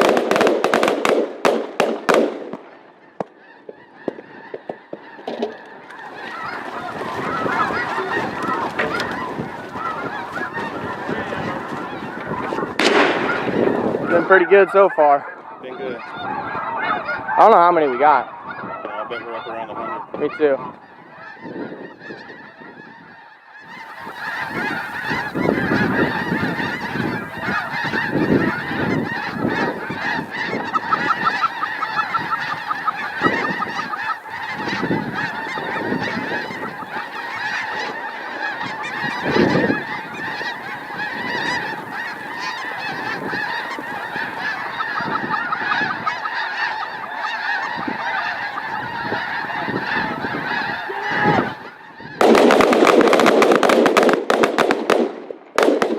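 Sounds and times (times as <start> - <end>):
geese honking: 0.0 - 55.0, 55.6 - 55.9.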